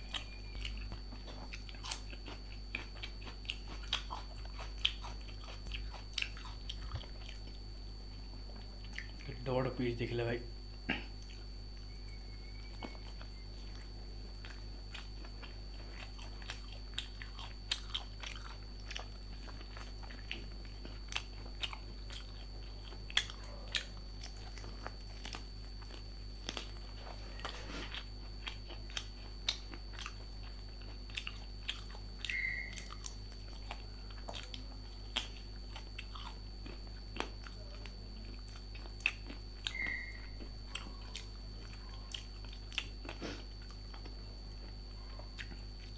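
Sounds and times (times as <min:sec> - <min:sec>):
chewing and biting food: 0:00.0 - 0:45.9
steady background hum: 0:00.0 - 0:45.9.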